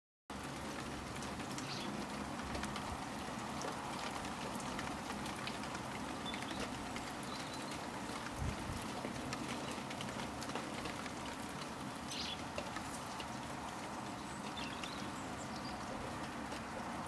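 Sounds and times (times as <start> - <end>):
light rain pattering: 0.3 - 17.0.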